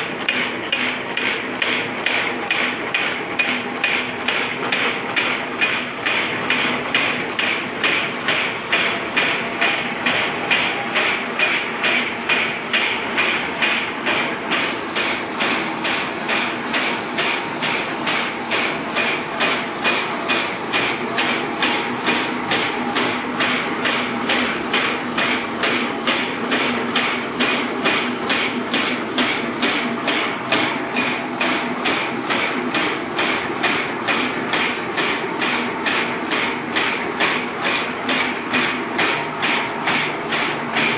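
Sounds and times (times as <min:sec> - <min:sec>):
rhythmic metallic clatter: 0:00.0 - 0:40.9.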